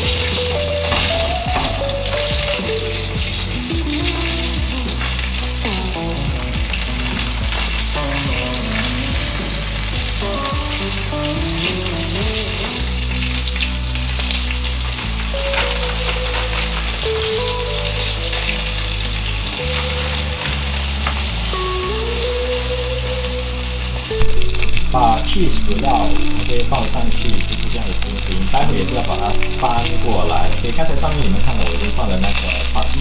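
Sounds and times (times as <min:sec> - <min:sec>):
fish sizzling in hot oil: 0:00.0 - 0:33.0.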